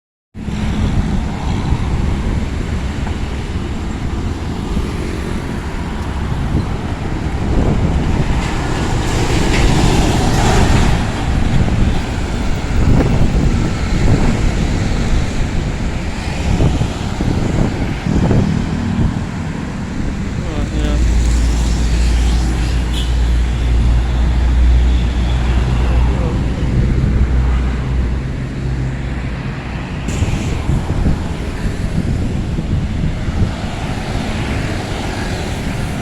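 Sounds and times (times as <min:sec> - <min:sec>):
heavy vehicle engine and tyres rumbling: 0:00.4 - 0:36.0.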